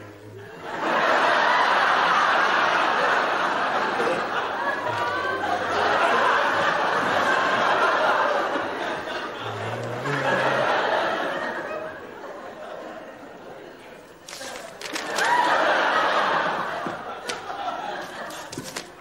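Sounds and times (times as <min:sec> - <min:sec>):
studio audience laughing: 0:00.3 - 0:19.0.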